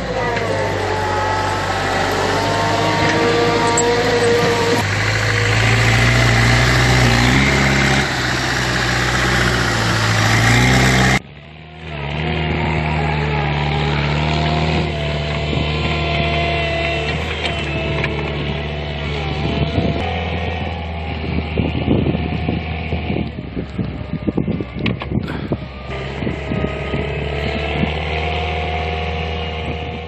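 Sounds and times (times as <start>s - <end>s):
diesel engine under load: 0.0s - 30.0s.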